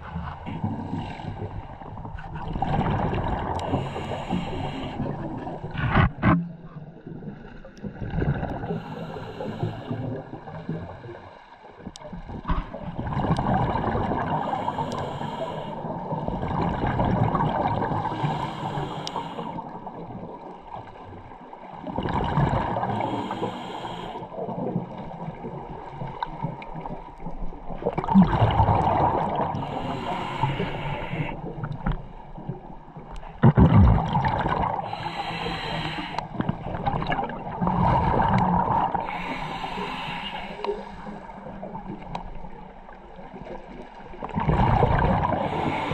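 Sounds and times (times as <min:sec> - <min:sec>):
underwater bubbles gurgling: 0:00.0 - 0:45.9.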